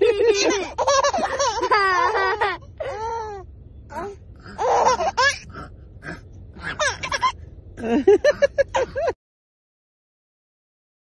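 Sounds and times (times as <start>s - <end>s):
baby laughing: 0.0s - 9.2s.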